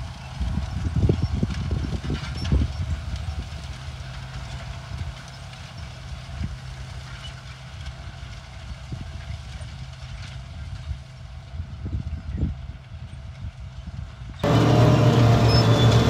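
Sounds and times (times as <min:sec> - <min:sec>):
tractor engine humming: 0:00.0 - 0:11.8, 0:14.4 - 0:16.0.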